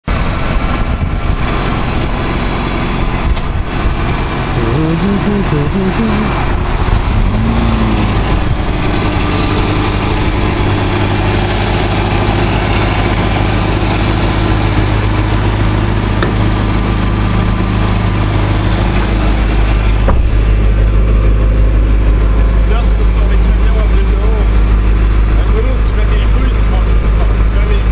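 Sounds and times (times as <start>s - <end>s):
pickup engine idling: 0.1s - 27.9s.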